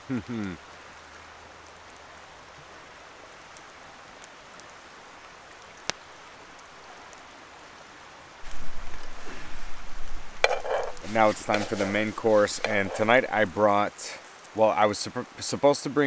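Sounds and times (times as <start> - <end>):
running water in a creek: 0.0 - 16.0.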